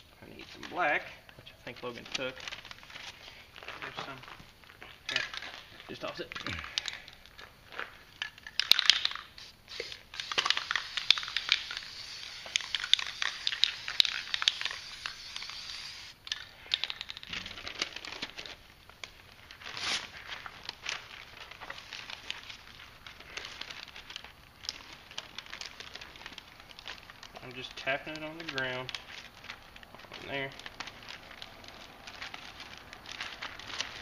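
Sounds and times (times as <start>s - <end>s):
magazine pages crumpling: 0.2s - 34.0s.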